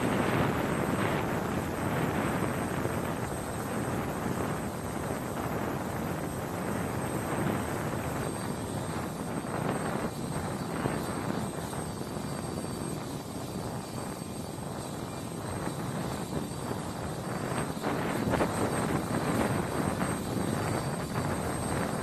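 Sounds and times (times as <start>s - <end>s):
helicopter turbines running: 0.0s - 22.0s.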